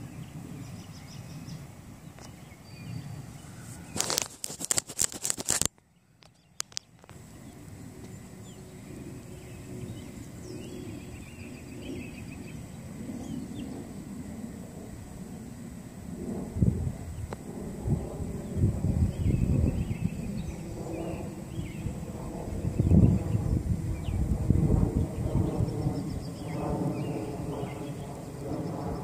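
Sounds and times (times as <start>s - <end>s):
low outdoor background: 0.0s - 29.0s.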